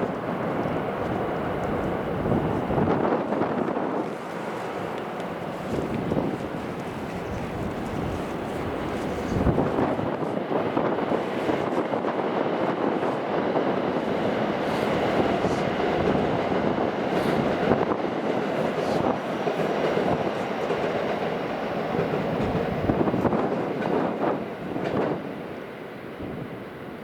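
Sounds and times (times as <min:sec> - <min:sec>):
train wheel and air rush: 0:00.0 - 0:27.0.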